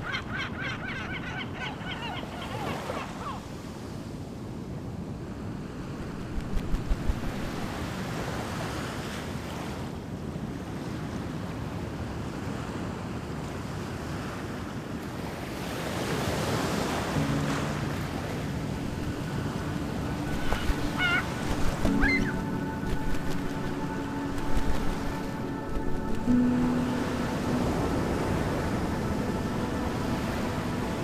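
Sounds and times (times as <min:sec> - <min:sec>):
wind: 0:00.0 - 0:31.0
ocean surf washing onto beach: 0:02.5 - 0:31.0.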